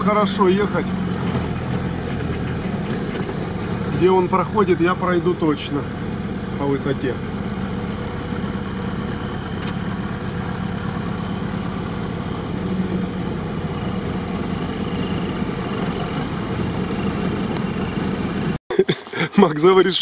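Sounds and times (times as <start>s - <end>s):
vehicle engine idling: 0.0s - 18.6s.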